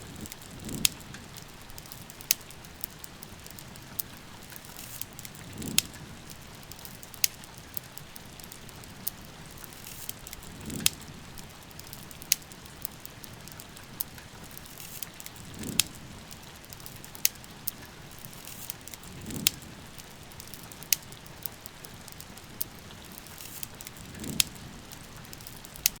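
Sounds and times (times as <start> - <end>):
rain falling: 0.0 - 26.0
wood fire crackling: 0.0 - 26.0.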